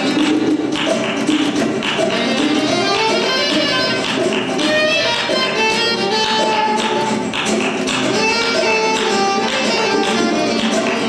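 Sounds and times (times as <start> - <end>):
cajon strokes: 0.0 - 11.0
guitar: 0.0 - 11.0.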